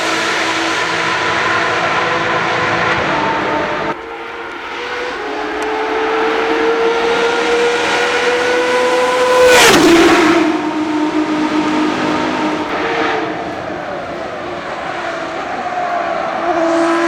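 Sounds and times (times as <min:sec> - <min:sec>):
race car passing at speed: 0:00.0 - 0:17.0.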